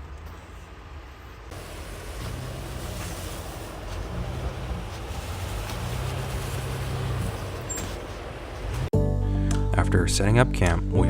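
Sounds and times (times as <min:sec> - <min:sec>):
truck engine droning: 0:00.0 - 0:08.9.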